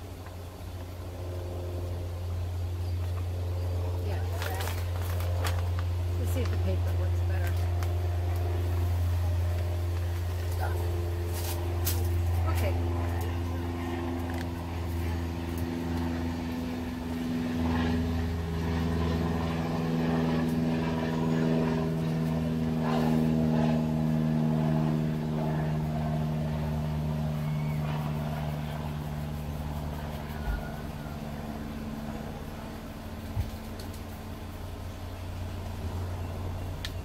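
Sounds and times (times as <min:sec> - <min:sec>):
engine humming steadily: 0:00.0 - 0:37.0.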